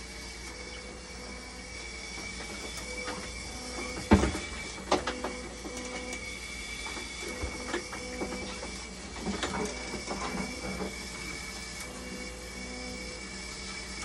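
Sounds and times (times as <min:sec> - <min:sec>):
machine hum with high tone: 0:00.0 - 0:14.0.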